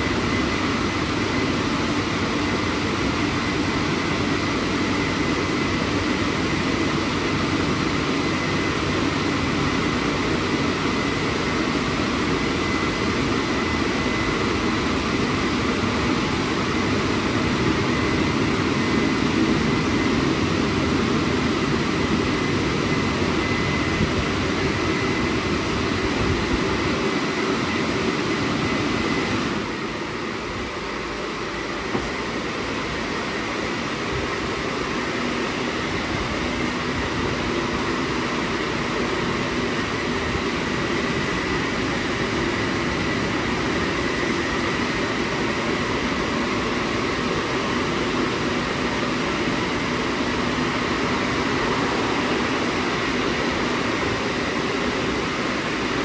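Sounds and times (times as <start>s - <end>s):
drying blowers rushing air: 0.0s - 56.0s
faint steady whine: 0.0s - 56.0s.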